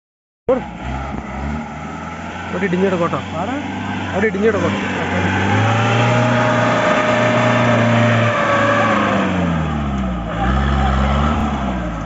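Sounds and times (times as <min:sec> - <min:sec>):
jeep engine revving under load: 0:00.5 - 0:12.0.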